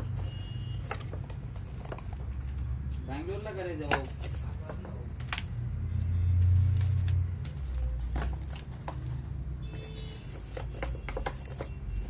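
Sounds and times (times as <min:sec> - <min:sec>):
handling clicks and rustles: 0:00.0 - 0:05.6, 0:06.4 - 0:12.0.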